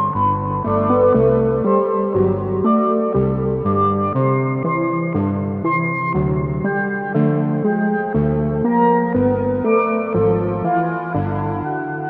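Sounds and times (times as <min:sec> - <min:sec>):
synth bass: 0:00.0 - 0:12.0.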